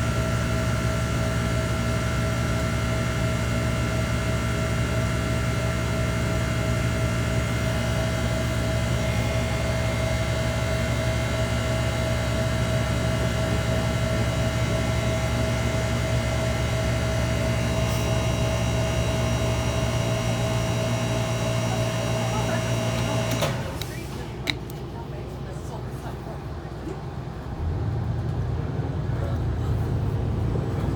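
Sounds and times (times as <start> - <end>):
bus engine drone: 0.0 - 30.9.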